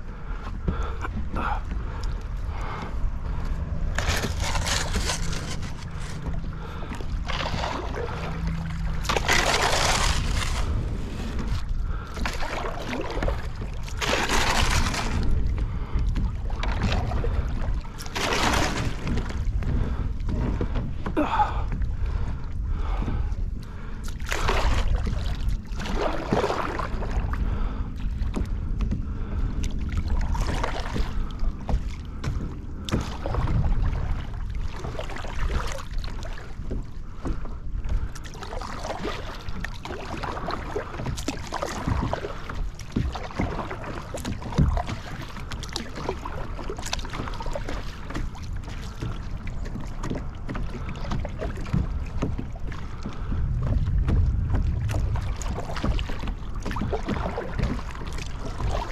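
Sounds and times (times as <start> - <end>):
water splashing around kayak: 0.0 - 58.9
wind rumble on microphone: 0.0 - 58.9.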